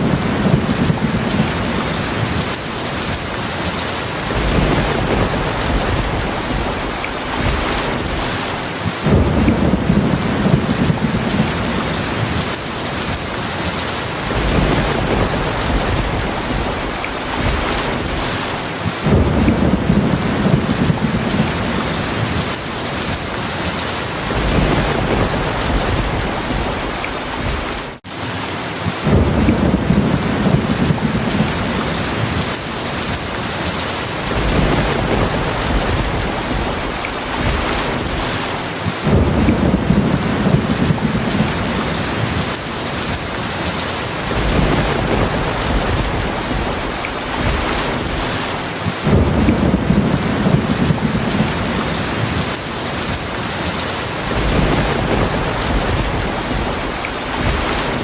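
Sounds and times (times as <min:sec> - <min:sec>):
thunder rumbling: 0:00.0 - 0:28.0, 0:28.8 - 0:58.0
heavy rain hissing: 0:00.0 - 0:58.0.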